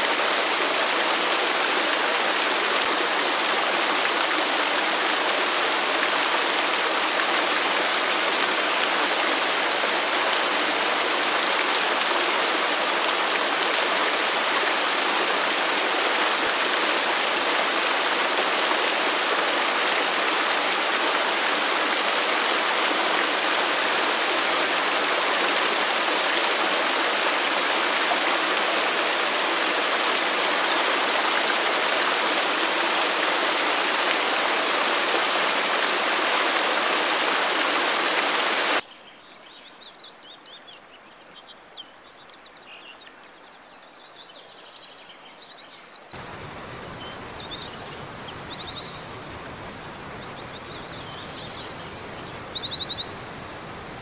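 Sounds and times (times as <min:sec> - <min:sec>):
waterfall rushing water: 0:00.0 - 0:38.8, 0:46.1 - 0:54.0.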